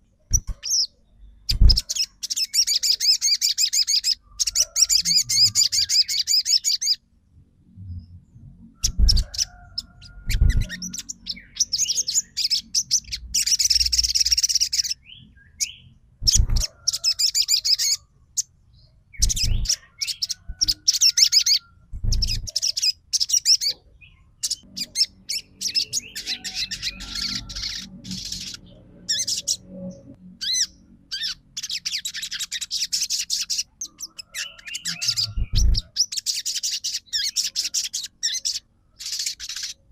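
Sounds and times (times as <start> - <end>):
songbird chattering: 0.3 - 7.0, 8.8 - 18.5, 19.1 - 39.9.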